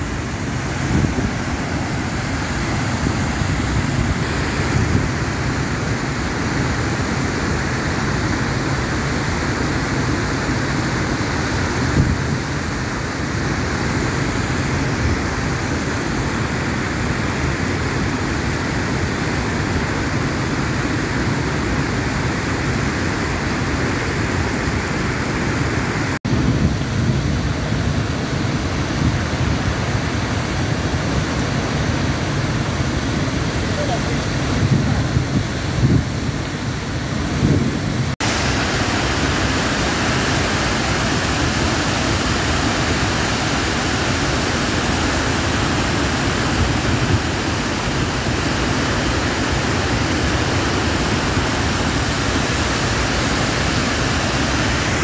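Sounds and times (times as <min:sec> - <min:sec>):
river rapids foaming: 0:00.0 - 0:26.2, 0:27.4 - 0:55.0
waterfall roar: 0:00.0 - 0:55.0.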